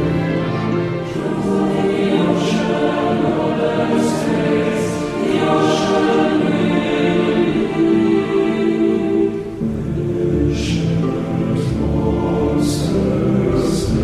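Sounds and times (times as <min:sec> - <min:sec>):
choir singing slow chords: 0:00.0 - 0:14.0.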